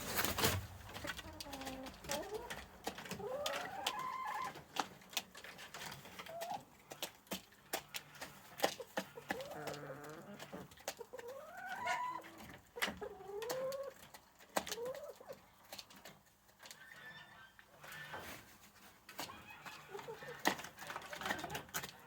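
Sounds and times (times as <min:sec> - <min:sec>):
chickens warbling: 0:00.1 - 0:05.0, 0:06.0 - 0:15.4, 0:16.6 - 0:18.4, 0:19.2 - 0:22.0.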